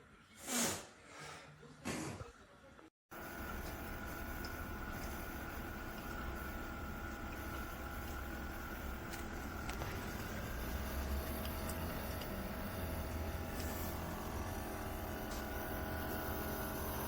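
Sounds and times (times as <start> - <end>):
mechanical hum: 1.8 - 17.0.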